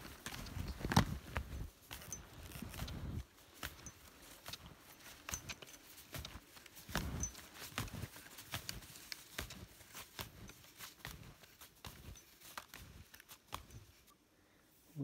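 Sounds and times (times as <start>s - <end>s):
snowshoe footsteps crunching snow: 0.0s - 14.1s.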